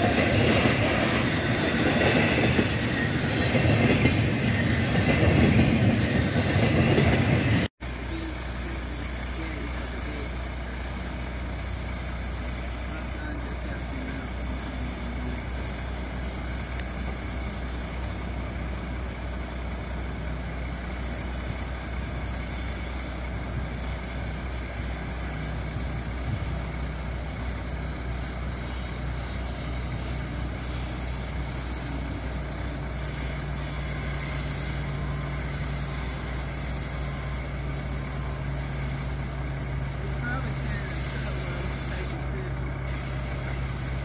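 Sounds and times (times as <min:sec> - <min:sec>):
engine idling: 0:01.1 - 0:44.0
second steady hum: 0:07.6 - 0:44.0.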